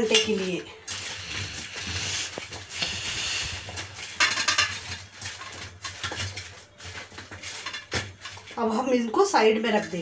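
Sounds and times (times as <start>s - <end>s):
gourds scraping in steel bowl: 0.0s - 10.0s.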